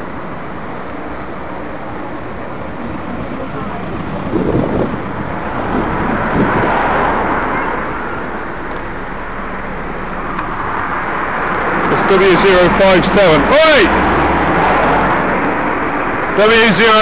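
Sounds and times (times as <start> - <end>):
road and car noise: 0.0 - 17.0
wind rushing over microphone: 0.1 - 17.0.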